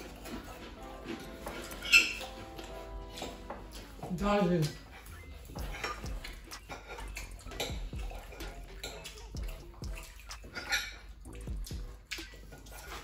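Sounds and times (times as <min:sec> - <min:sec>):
people chewing: 0:00.0 - 0:13.0.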